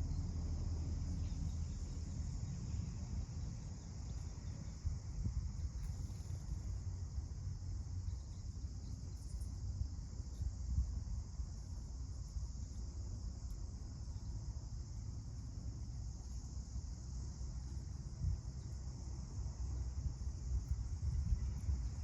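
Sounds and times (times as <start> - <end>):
wind rumble on microphone: 0.0 - 16.0, 17.3 - 22.0
high insect chorus: 0.0 - 22.0.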